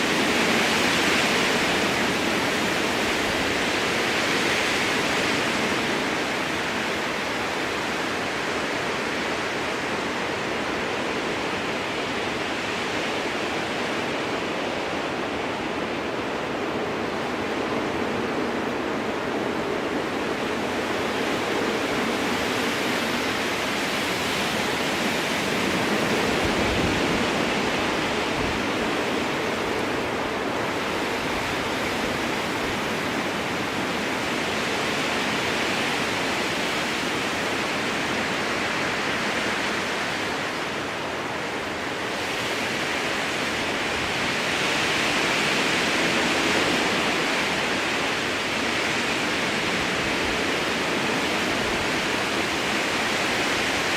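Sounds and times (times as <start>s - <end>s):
strong wind through trees: 0.0s - 53.9s.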